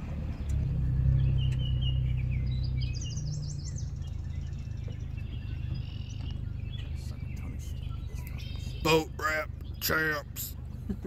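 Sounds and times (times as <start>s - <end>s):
engine idling: 0.0s - 11.0s
songbirds calling: 0.0s - 11.0s.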